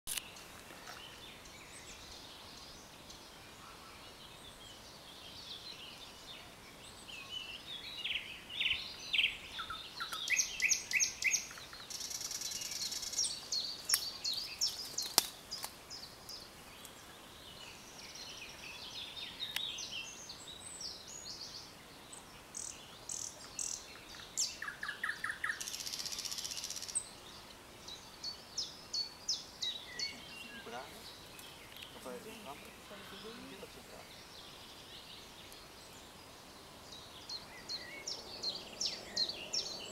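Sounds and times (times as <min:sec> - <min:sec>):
nightingale singing: 0:00.1 - 0:39.9.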